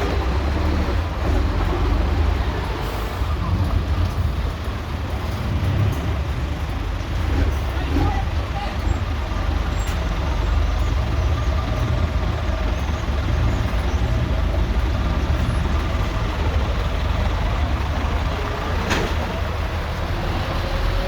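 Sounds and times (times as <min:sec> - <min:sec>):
diesel truck engines rumbling: 0:00.0 - 0:21.0.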